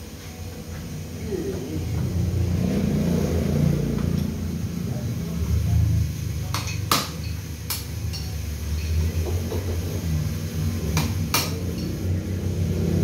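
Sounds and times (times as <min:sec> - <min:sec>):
low engine rumble: 0:00.1 - 0:13.0.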